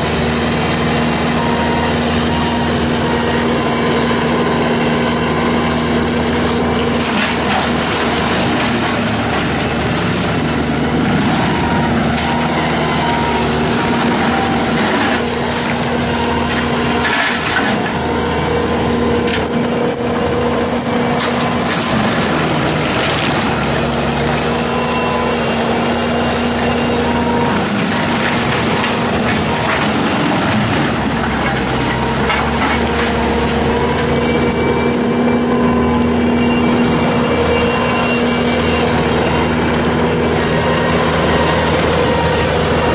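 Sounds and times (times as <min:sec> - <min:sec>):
diesel engine running at high speed: 0:00.0 - 0:42.9
mulcher grinding: 0:00.0 - 0:42.9.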